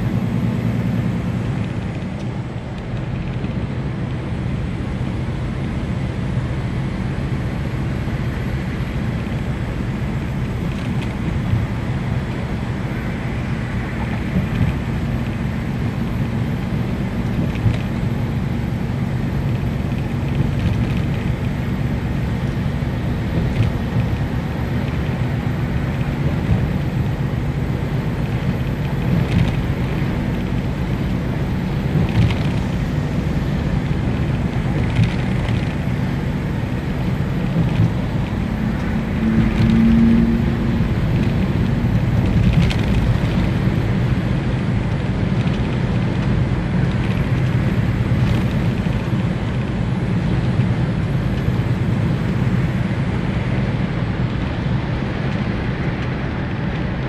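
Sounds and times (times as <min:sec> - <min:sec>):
road noise: 0:00.0 - 0:57.0
truck engine drone: 0:00.0 - 0:57.0.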